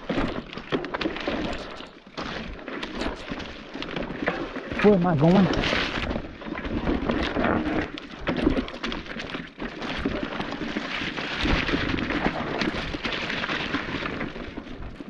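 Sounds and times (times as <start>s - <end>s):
bike knocking and rattling: 0.0s - 15.0s
bike tyres rumbling over rock: 0.0s - 15.0s.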